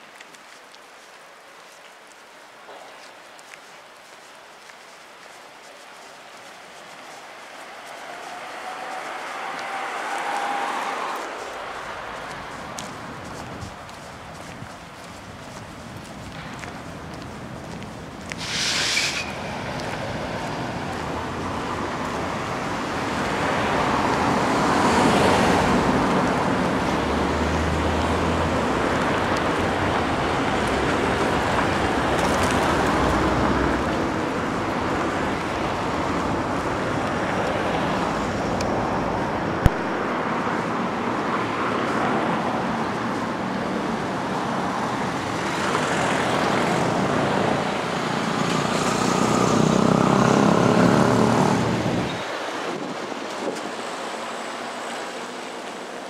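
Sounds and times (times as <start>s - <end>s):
urban traffic noise: 0.0s - 56.0s.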